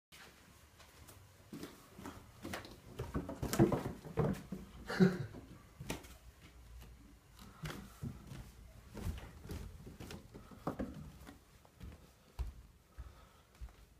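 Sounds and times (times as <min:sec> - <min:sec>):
kitten paws on wooden stairs: 0:00.9 - 0:13.9.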